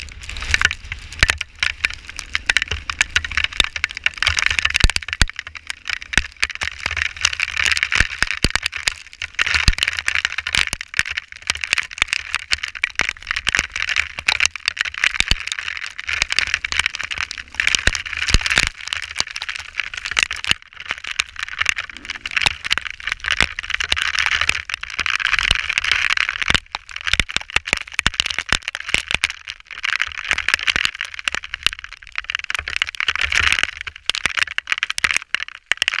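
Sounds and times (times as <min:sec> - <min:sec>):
hail clattering: 0:00.0 - 0:36.0.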